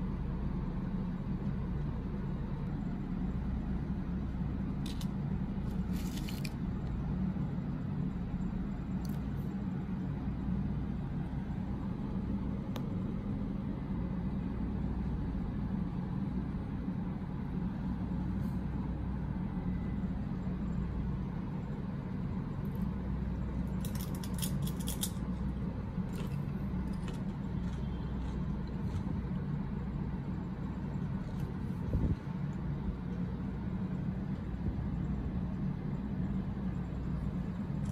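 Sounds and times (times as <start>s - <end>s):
low background hum: 0.0s - 37.9s.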